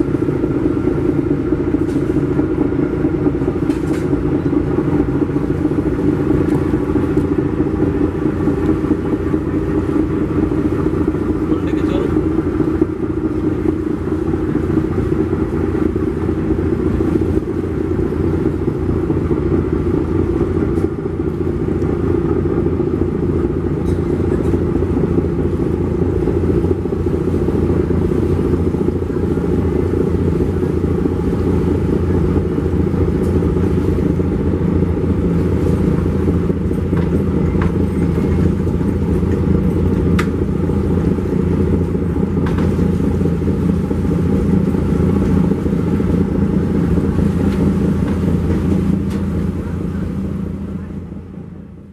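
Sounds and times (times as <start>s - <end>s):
marine diesel engines running: 0.0s - 51.9s.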